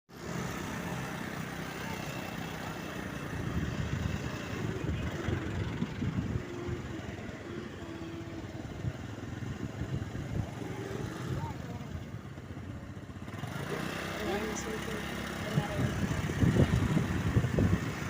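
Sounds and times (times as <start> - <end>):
road traffic noise: 0.1 - 18.0
vehicle engine rumbling: 0.1 - 18.0.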